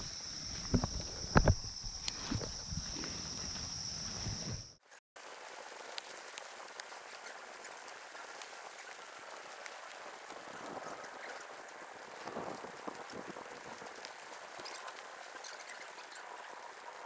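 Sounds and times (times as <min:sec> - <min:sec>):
rain on leaves and ground: 0:02.9 - 0:17.0.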